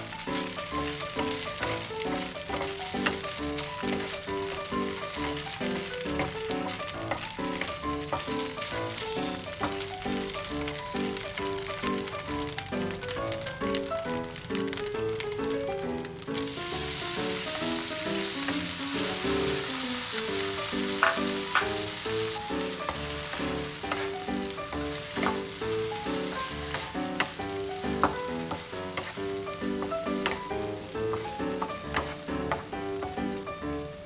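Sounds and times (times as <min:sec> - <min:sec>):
background music: 0:00.0 - 0:34.0
meat sizzling in a frying pan: 0:00.0 - 0:34.0.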